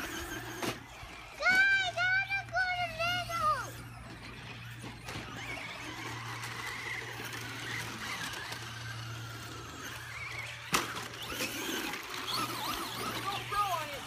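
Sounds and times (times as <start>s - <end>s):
high motor whine: 0.0s - 14.0s.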